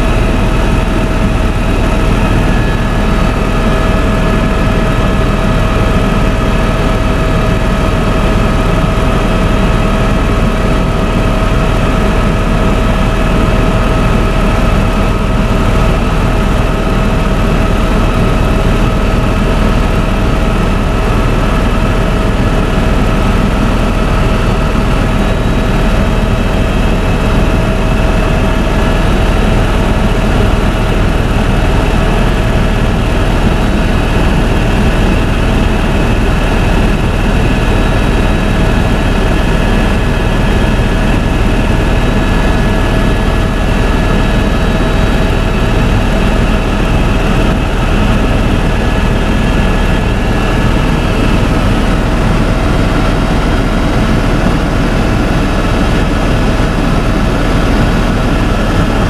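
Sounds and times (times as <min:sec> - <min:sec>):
constant whine: 0:00.0 - 0:59.0
helicopter engine and rotor drone: 0:00.0 - 0:59.0.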